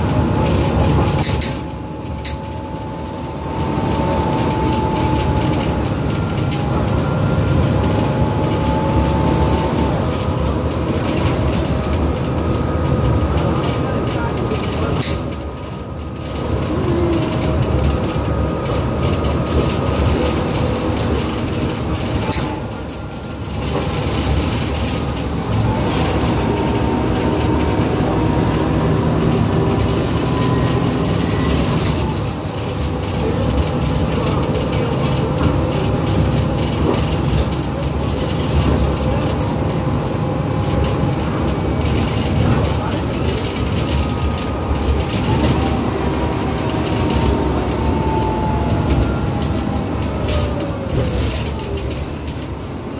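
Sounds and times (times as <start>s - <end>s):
bus engine low rumble: 0.0s - 52.9s
drivetrain whine: 0.0s - 52.9s.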